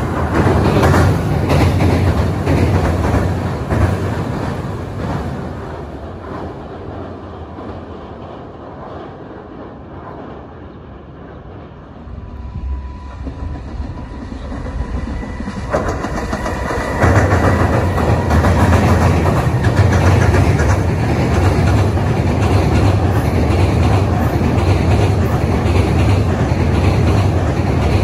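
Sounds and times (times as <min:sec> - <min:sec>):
train wheels rumbling on bridge: 0:00.0 - 0:28.0.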